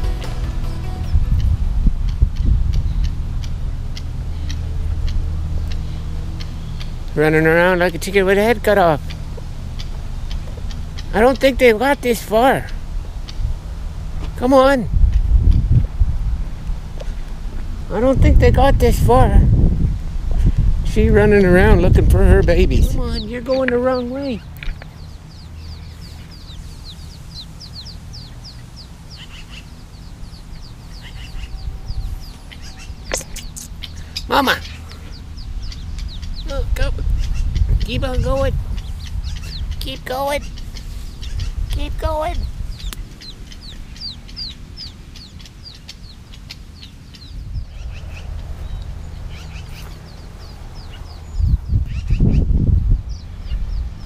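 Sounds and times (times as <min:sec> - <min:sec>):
low rumble: 0:00.0 - 0:54.0
bird chirping rapidly: 0:01.0 - 0:15.8, 0:21.0 - 0:54.0.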